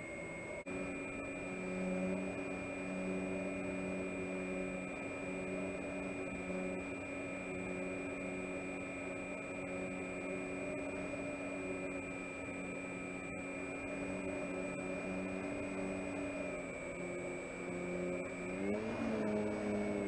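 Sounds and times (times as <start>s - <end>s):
electric motor and propeller whine: 0.0s - 20.0s.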